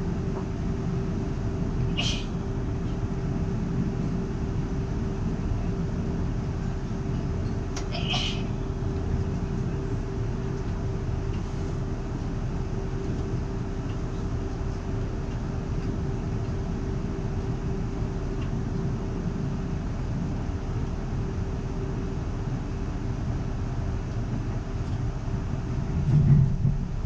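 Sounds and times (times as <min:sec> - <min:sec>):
steady train hum: 0:00.0 - 0:27.0
train wheels rumbling on track: 0:00.0 - 0:27.0.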